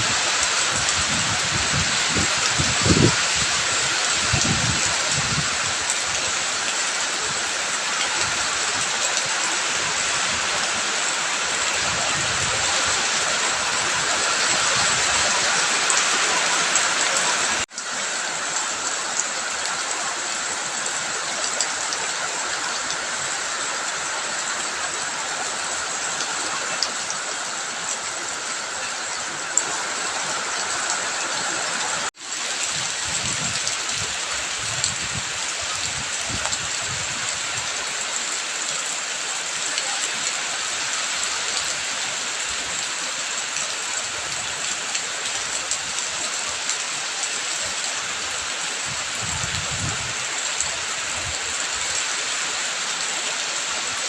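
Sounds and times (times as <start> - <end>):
running water: 0.0 - 54.0
steady rain: 0.0 - 54.0.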